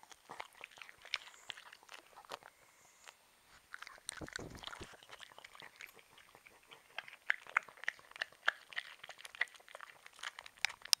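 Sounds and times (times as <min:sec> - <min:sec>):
dog chewing with wet crunches: 0:00.0 - 0:02.6, 0:03.5 - 0:11.0.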